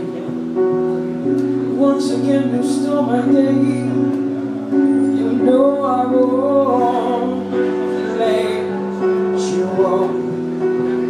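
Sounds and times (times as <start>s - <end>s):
person singing long wavering notes: 1.7s - 11.0s.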